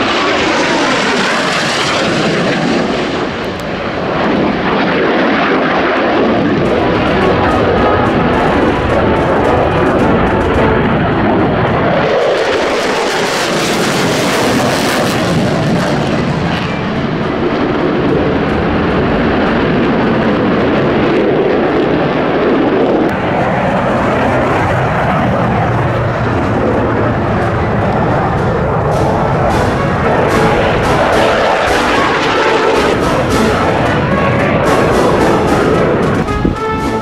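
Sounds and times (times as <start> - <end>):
jets flying past: 0.0 - 37.0.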